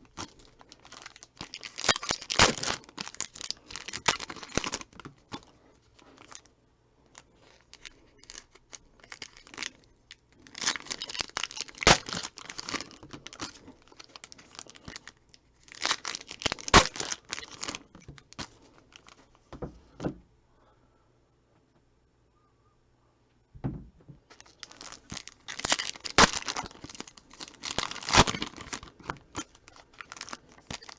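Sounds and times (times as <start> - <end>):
card pack wrappers tearing: 0.0 - 6.5, 7.1 - 19.3, 24.3 - 30.9.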